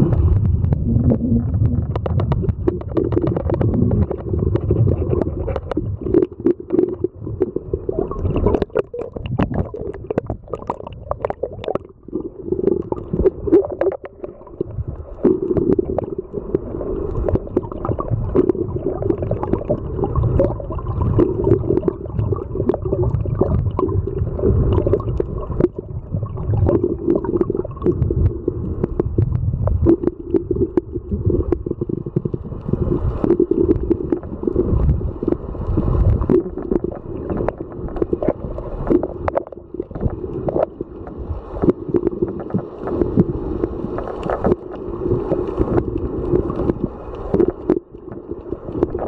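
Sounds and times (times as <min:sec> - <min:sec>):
underwater rumbling and gurgling: 0:00.0 - 0:49.0.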